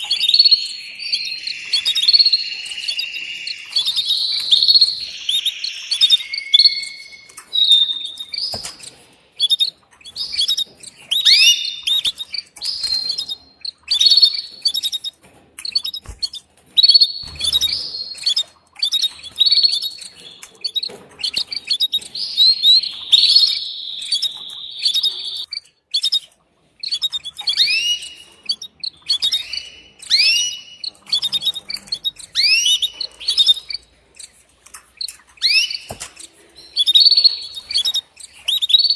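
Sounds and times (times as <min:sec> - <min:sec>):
canary chirping and trilling: 0:00.0 - 0:38.9.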